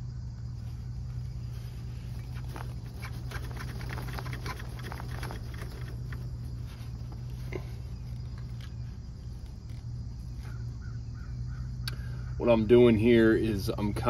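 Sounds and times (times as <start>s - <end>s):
electric fan humming: 0.0s - 13.9s.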